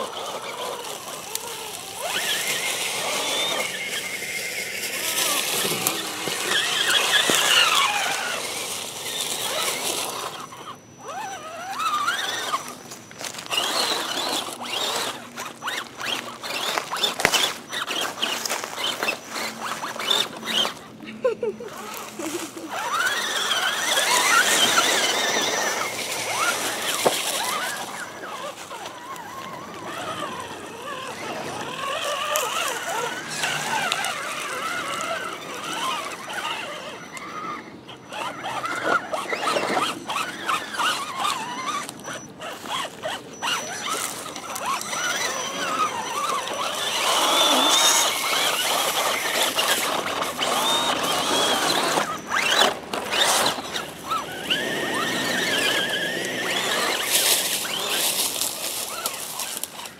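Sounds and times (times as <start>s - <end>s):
toy truck electric motors whining: 0.0s - 59.9s.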